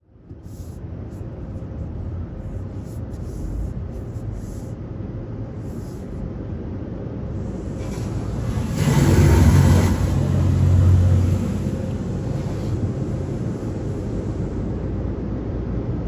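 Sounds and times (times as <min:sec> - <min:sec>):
faint steady hum: 0:00.0 - 0:16.0
vehicle engine idling: 0:00.2 - 0:15.0.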